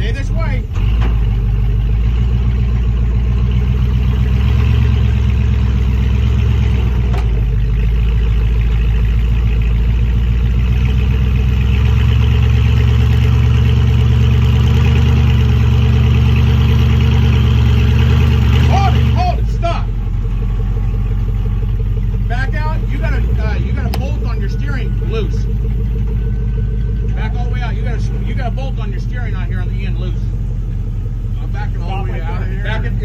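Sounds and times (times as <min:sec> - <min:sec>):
engine rumbling: 0:00.0 - 0:33.0.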